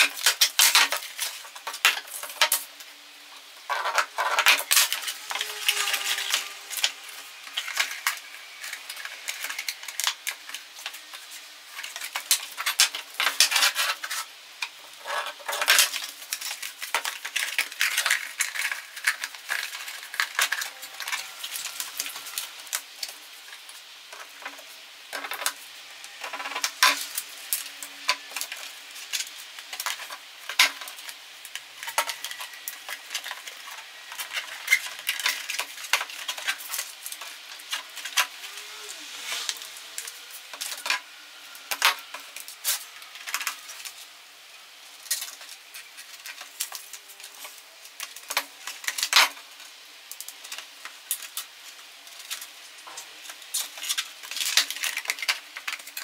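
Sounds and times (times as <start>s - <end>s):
plastic sheets clicking and crackling: 0.0s - 44.1s, 44.8s - 56.0s.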